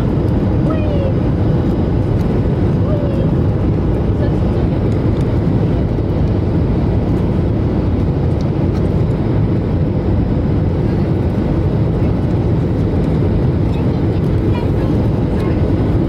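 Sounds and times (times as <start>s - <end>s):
airliner cabin noise: 0.0s - 16.0s.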